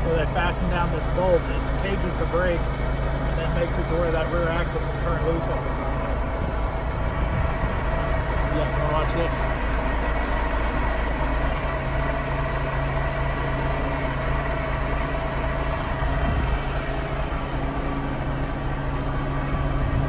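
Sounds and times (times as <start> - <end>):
truck diesel engine idling: 0.0 - 20.0.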